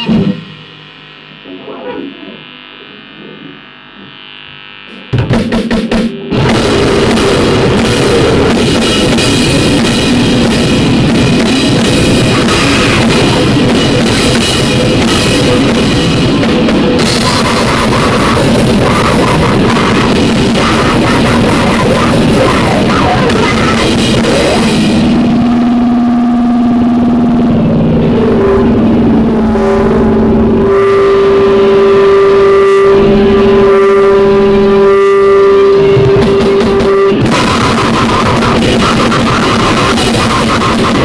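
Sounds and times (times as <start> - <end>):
harsh distorted noise music: 0.0 - 41.0
steady low drone: 6.0 - 41.0.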